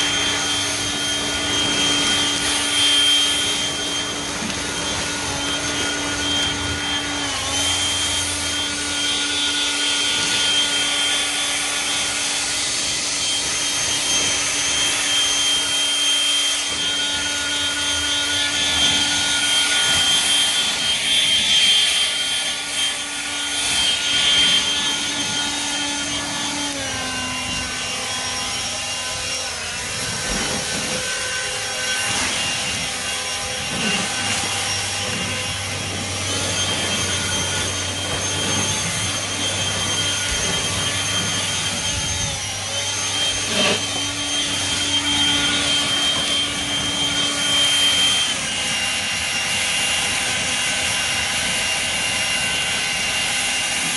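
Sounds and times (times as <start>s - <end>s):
leaf blower fan whine: 0.0s - 53.9s.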